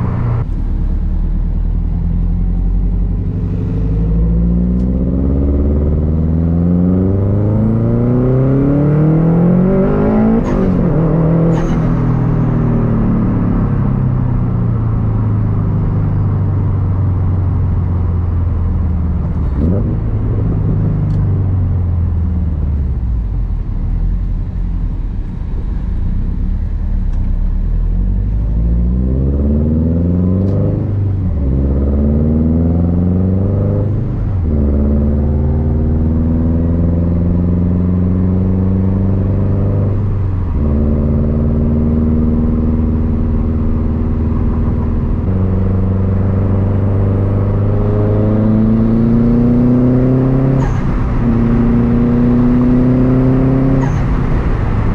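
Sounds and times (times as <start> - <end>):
car engine accelerating through gears: 0.0 - 54.9.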